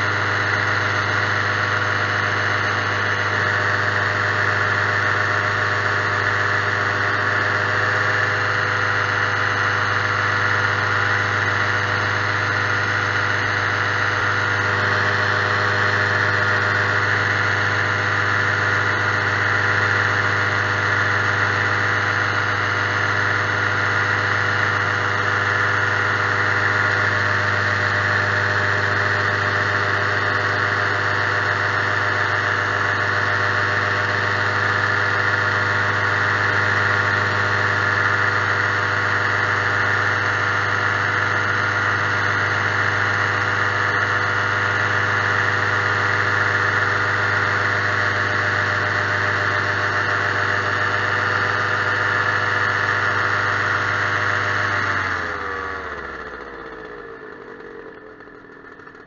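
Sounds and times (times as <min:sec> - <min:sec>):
small aircraft engine droning: 0:00.0 - 0:59.0.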